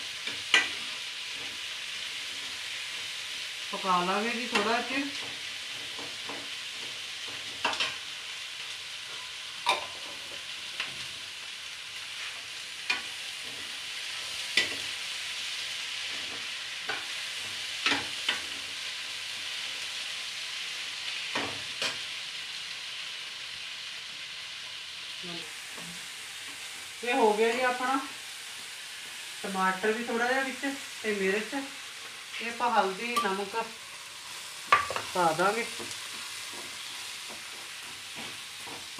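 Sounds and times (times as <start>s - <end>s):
masala sizzling in a pan: 0.0s - 38.9s.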